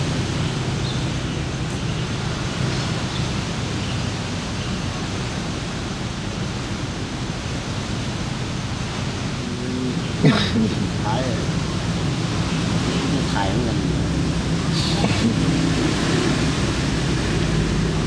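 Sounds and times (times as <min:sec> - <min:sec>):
beach ambience rushing: 0:00.0 - 0:18.0.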